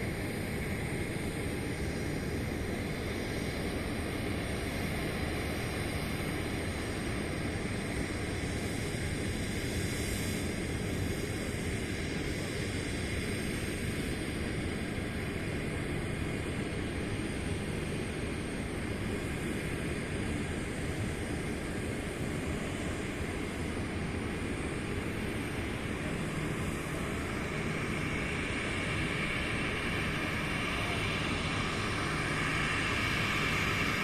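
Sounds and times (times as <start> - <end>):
distant jet engines: 0.0 - 34.0.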